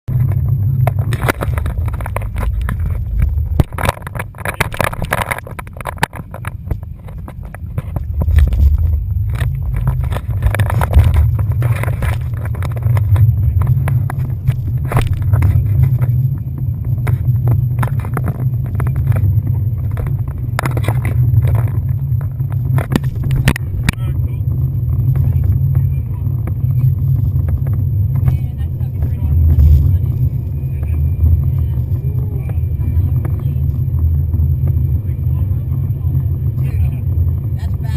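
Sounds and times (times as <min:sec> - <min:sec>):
boat engine low rumble: 0:00.0 - 0:37.9.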